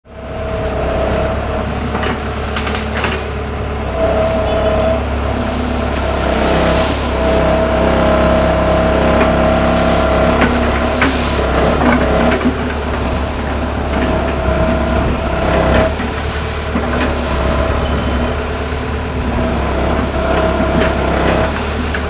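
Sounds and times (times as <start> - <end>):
excavator diesel engine running: 0.0 - 22.0
hydraulic whine: 0.1 - 22.0.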